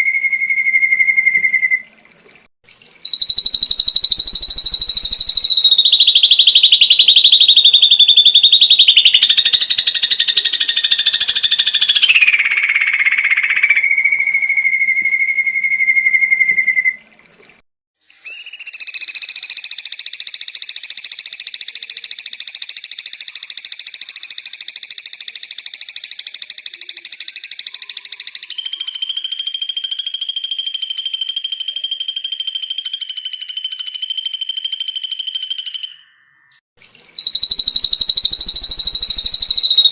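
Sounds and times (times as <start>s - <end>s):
bird calls trilling and whistling: 0.0s - 1.9s, 3.0s - 17.0s, 18.0s - 39.9s.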